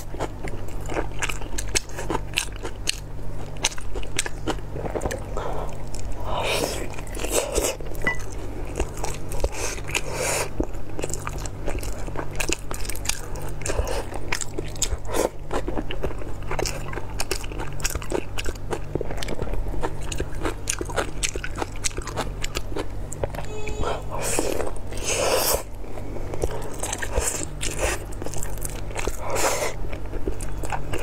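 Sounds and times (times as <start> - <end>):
biting and chewing sausage: 0.0 - 31.0
steady low hum: 0.0 - 31.0.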